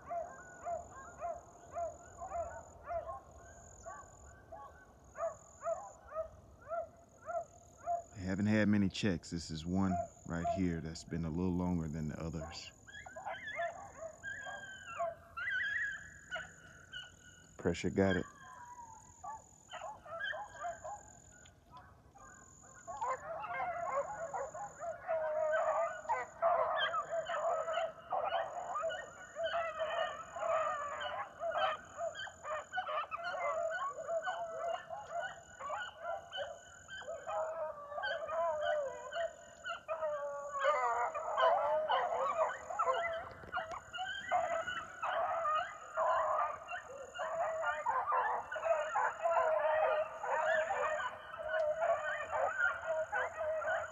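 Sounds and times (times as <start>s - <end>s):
pack of dogs baying: 0.0s - 53.9s.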